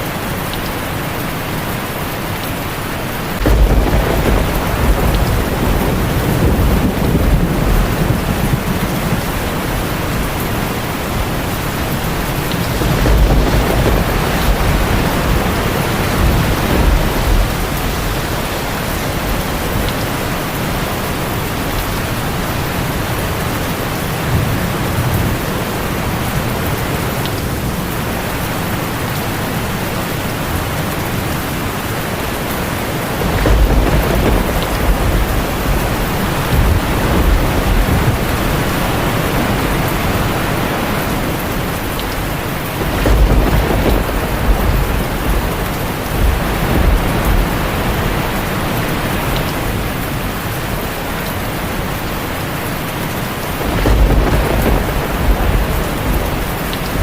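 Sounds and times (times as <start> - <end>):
heavy rain on a tin roof: 0.0 - 57.0
low thunder rumbling: 3.1 - 57.0.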